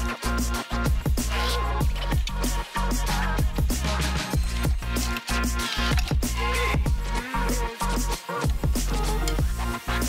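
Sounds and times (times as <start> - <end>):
electronic music with bass and drums: 0.0 - 10.0.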